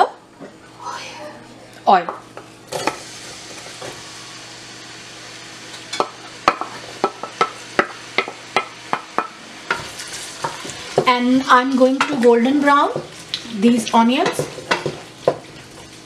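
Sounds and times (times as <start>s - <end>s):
onion sizzling in hot oil: 2.3s - 16.0s.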